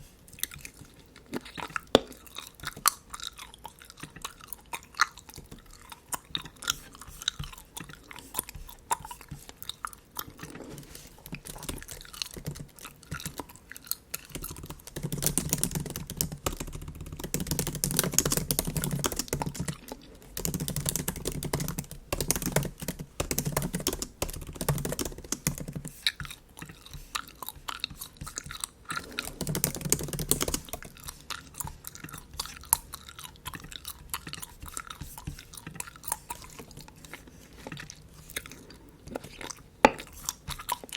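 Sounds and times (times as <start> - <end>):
bubble gum chewing clicks: 0.4 - 40.9.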